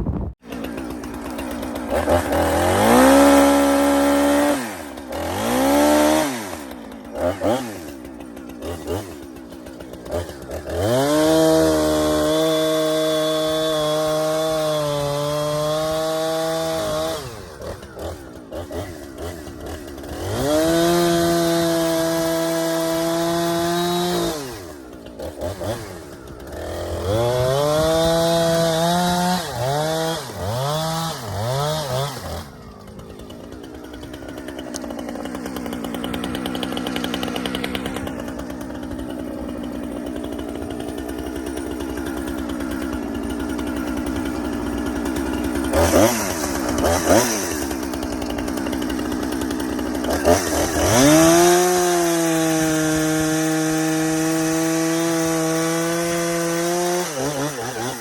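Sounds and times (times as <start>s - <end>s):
chainsaw revving: 0.3s - 58.0s.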